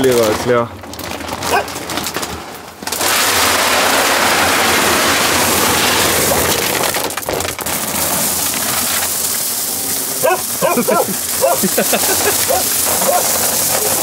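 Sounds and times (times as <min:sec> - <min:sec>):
dry kibble pouring into plastic barrel: 0:00.0 - 0:14.0.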